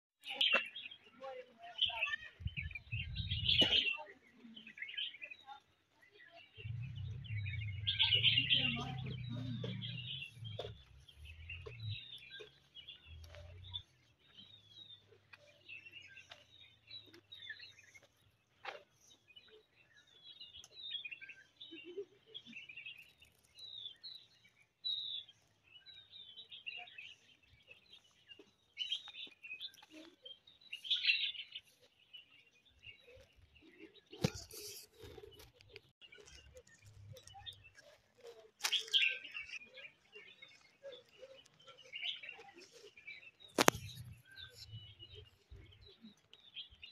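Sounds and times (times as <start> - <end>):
songbirds chirping: 0.2 - 46.9.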